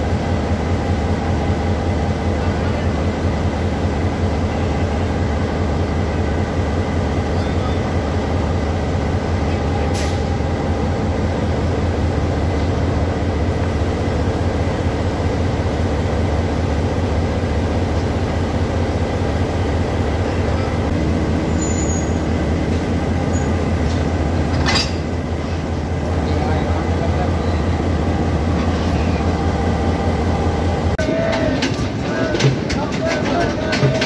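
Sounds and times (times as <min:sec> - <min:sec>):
locomotive engine idling: 0:00.0 - 0:34.0.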